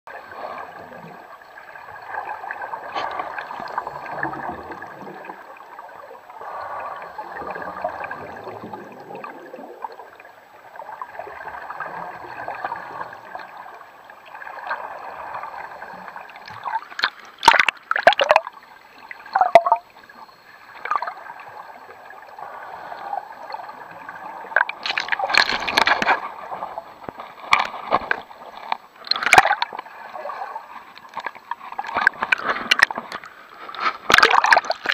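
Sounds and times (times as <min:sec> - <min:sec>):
underwater bubbles gurgling: 0:00.1 - 0:33.4, 0:34.1 - 0:34.9.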